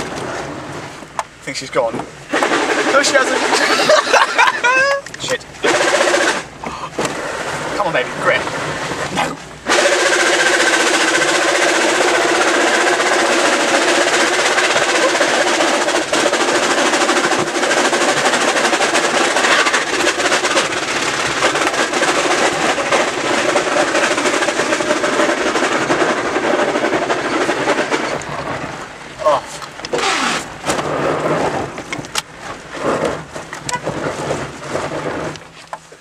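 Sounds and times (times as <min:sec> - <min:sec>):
road and tyre noise: 0:00.0 - 0:36.0
clattering rattles: 0:01.1 - 0:36.0
steady drone: 0:02.3 - 0:08.6, 0:09.2 - 0:31.7.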